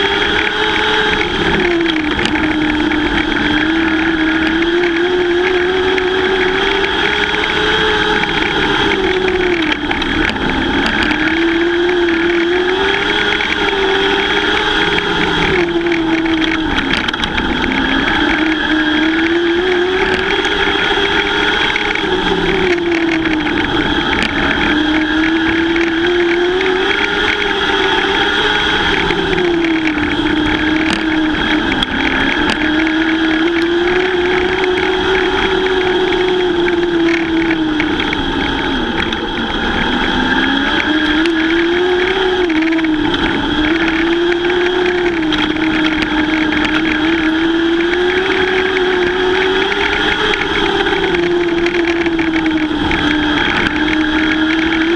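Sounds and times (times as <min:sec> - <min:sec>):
race car engines: 0:00.0 - 0:54.9.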